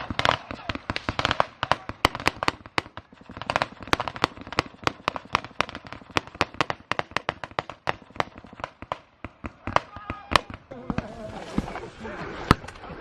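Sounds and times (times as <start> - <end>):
rifle gunfire: 0.0 - 10.7.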